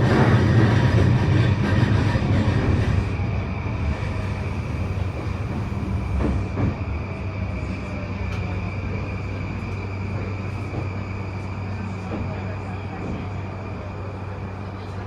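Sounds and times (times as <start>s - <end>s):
train wheel and rail rumble: 0.0s - 15.0s.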